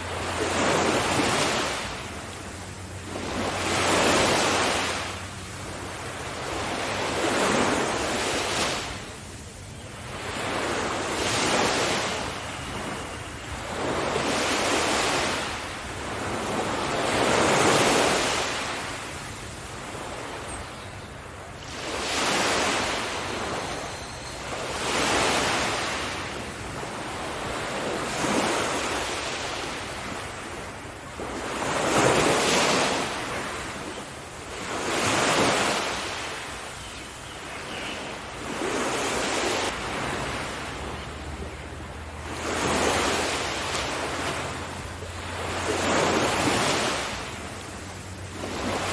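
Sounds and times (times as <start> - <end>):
ocean waves breaking: 0.0 - 48.9.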